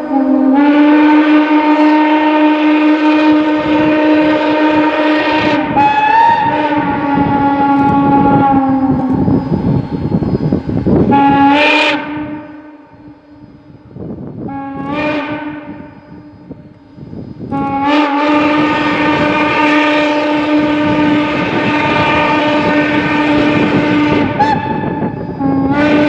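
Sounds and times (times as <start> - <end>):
steam locomotive whistle: 0.0 - 26.0.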